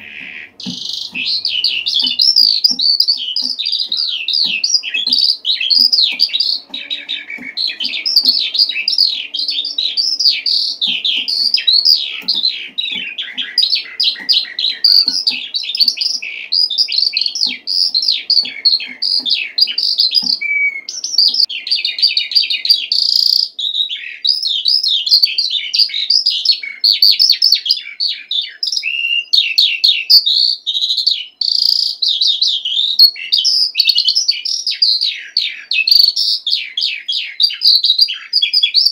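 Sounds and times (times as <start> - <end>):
skylark singing: 0.0 - 38.9.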